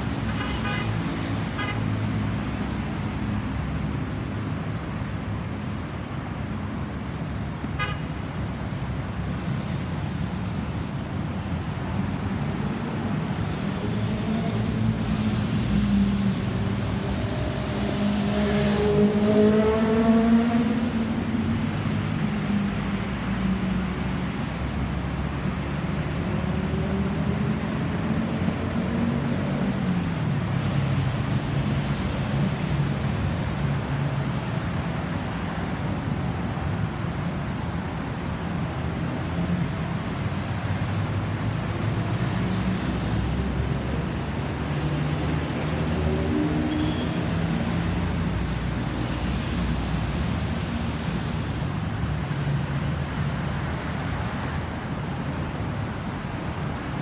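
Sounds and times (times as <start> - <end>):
vehicle engines: 0.0 - 57.0.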